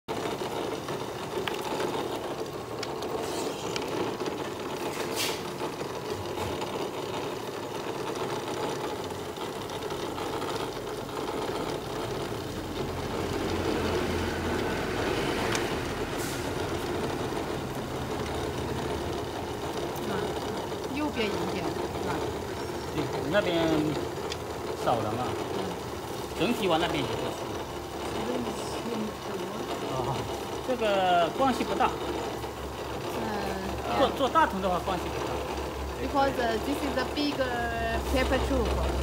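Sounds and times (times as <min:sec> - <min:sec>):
machine mechanical whirr: 0:00.1 - 0:39.0.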